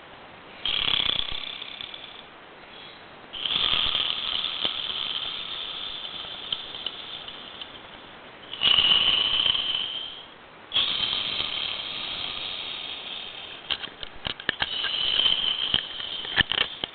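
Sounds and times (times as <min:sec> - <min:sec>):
man snoring with rattling rasp: 0:00.6 - 0:02.3, 0:03.3 - 0:16.9.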